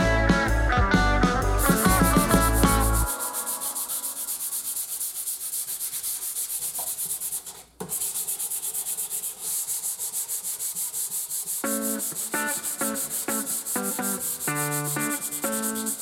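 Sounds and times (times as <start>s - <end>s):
hand sanding wood: 1.6s - 16.0s.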